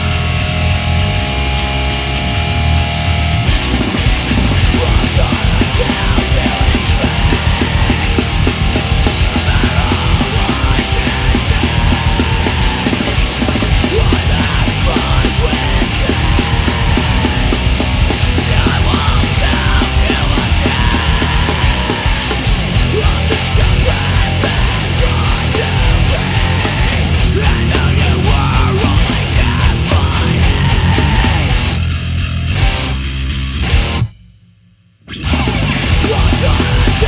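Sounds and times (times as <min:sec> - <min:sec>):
heavy rock band playing: 0:00.0 - 0:34.3, 0:35.1 - 0:37.0.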